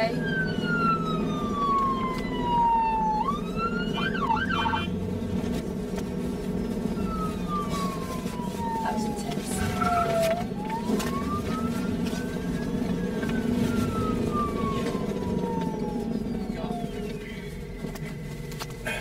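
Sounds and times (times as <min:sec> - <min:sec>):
siren rapid warble: 0:00.0 - 0:05.0, 0:06.5 - 0:18.5
police siren wailing: 0:00.0 - 0:18.8
moving car rumble: 0:00.0 - 0:19.0.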